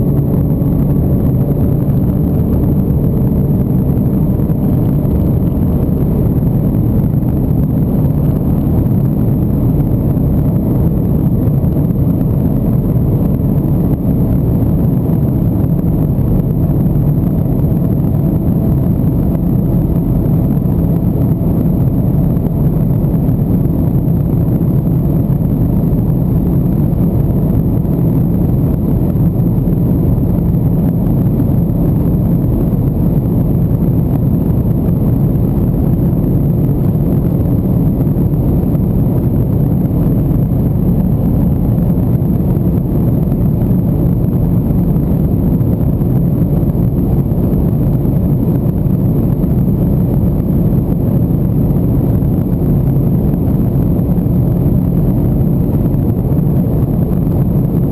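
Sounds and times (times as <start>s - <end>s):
car engine drone at speed: 0.0s - 57.9s.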